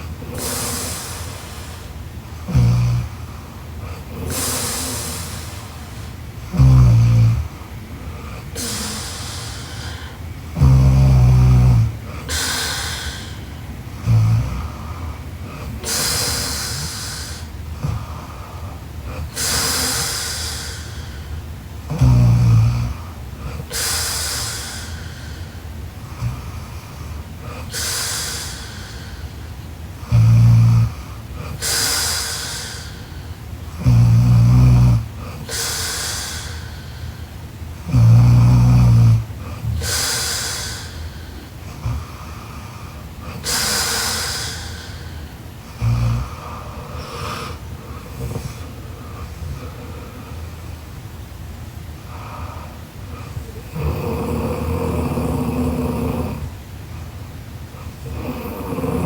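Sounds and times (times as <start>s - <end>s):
low snore: 0.0s - 21.2s, 21.9s - 29.1s, 30.0s - 37.2s, 37.8s - 50.4s, 52.1s - 56.6s, 57.8s - 59.0s
breathing in sleep: 0.0s - 50.7s.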